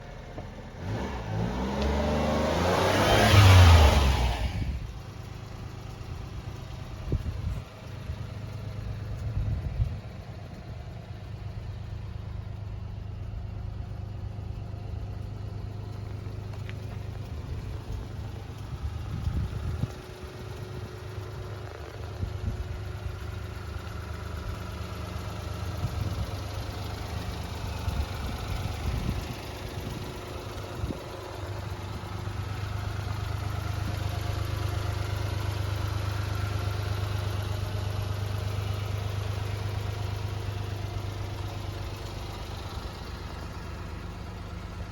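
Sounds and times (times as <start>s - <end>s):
small truck engine revving and idling: 0.0s - 44.9s.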